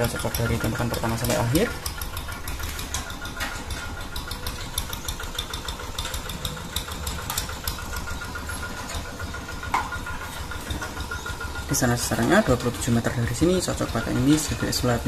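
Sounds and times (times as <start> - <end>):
motor running steadily: 0.0 - 15.0.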